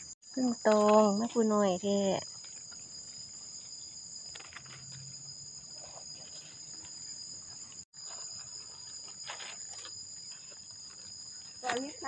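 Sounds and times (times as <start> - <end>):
high-pitched insect chorus: 0.0 - 12.0
dry leaves rustling: 2.3 - 12.0.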